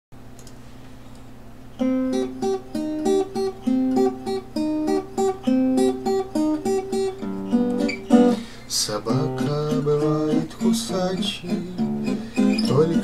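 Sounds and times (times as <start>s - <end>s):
acoustic guitar playing: 1.7s - 13.0s.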